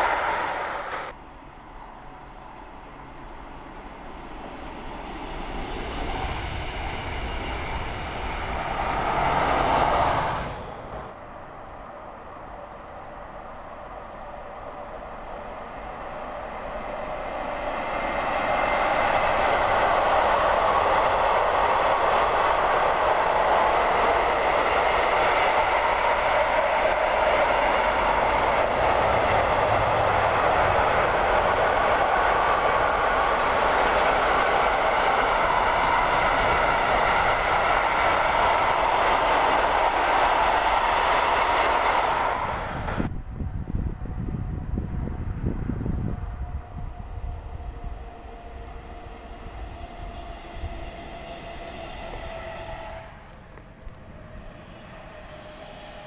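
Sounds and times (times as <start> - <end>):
freight train wheels rolling on rails: 0.0 - 56.0.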